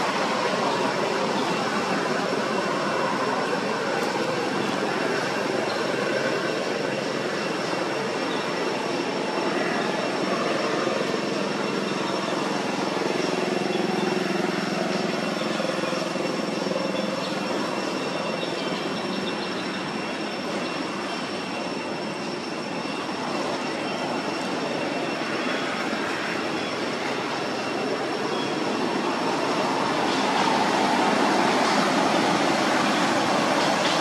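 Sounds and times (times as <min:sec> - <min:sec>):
continuous rushing hum: 0:00.0 - 0:34.0.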